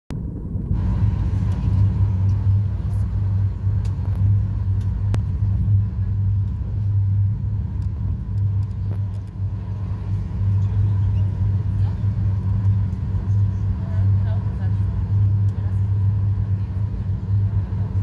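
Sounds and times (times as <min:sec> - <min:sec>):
jet cabin rumble: 0:00.1 - 0:18.0.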